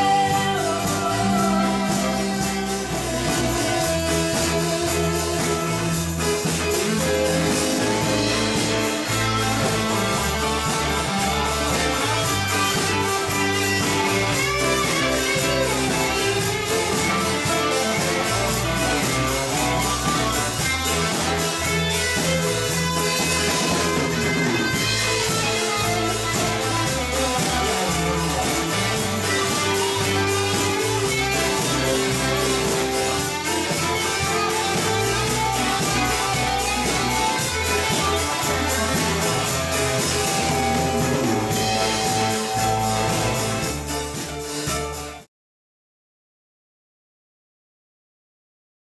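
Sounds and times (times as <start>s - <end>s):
live rock band playing: 0.0s - 45.3s.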